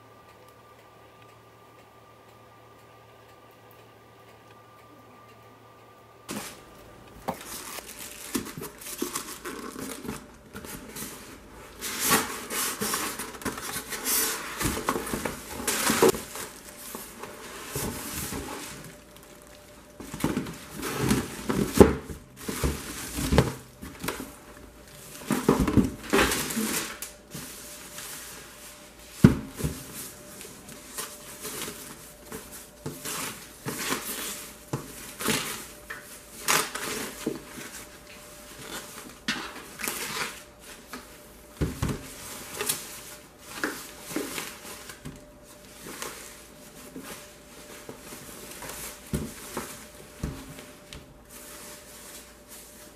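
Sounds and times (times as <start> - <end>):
plastic rustling and crinkling: 6.3 - 52.9
polystyrene and cardboard scraping: 7.4 - 41.1, 41.8 - 52.9.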